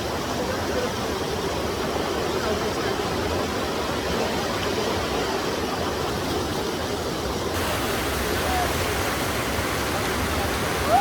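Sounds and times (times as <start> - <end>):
rushing mountain water: 0.0 - 11.0.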